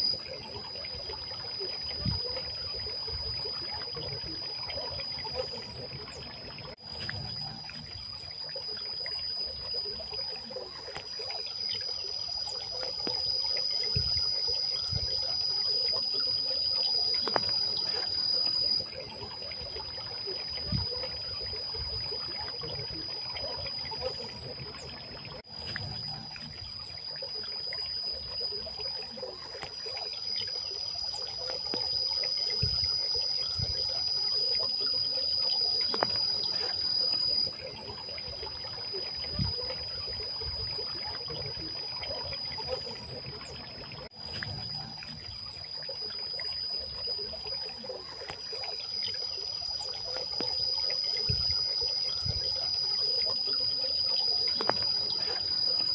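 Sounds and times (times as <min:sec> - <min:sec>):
fountain water trickling and splashing: 0:00.0 - 0:55.9
high-pitched insect trill: 0:00.0 - 0:55.9.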